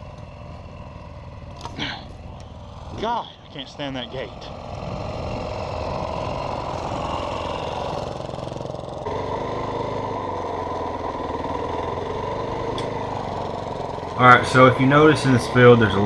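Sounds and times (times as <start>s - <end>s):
dirt bike engine at low revs: 0.0s - 16.0s.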